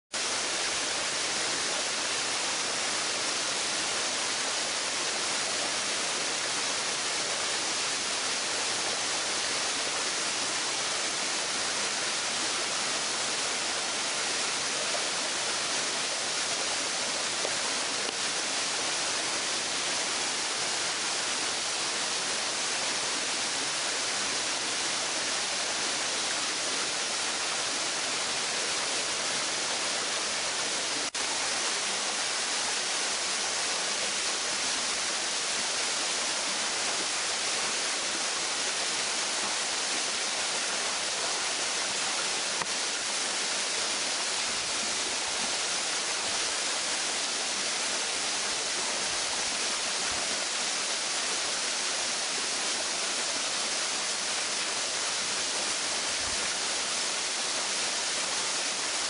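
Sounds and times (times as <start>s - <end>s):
waterfall rushing: 0.2s - 59.0s.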